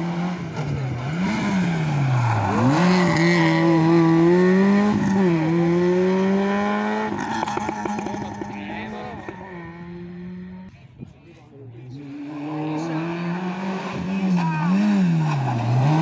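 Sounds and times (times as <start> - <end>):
rally car engine revving: 0.0 - 10.7, 11.9 - 16.0.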